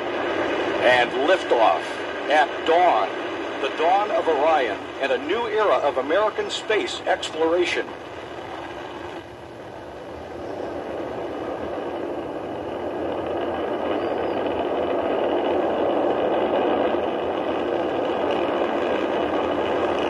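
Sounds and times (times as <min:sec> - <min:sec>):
distant rocket engine rumble: 0:00.0 - 0:20.0.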